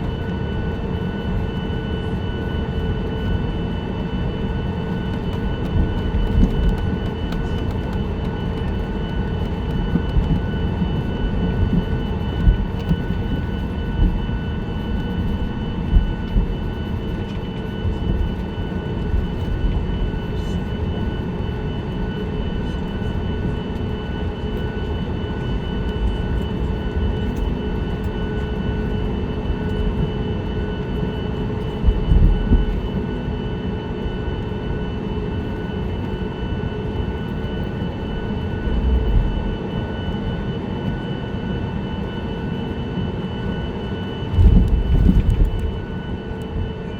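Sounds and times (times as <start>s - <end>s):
airplane cabin engine drone: 0.0s - 46.9s
steady whining tones: 0.0s - 46.9s.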